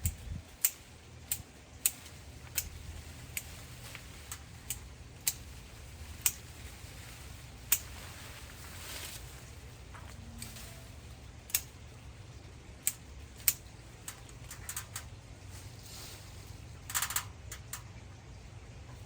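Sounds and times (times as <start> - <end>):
pruning shears snipping twigs: 0.0 - 11.8, 12.8 - 16.3.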